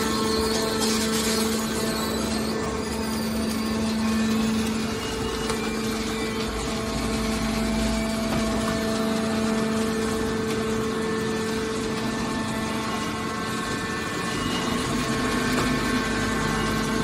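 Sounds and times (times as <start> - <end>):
hydraulic pump humming: 0.0 - 17.0.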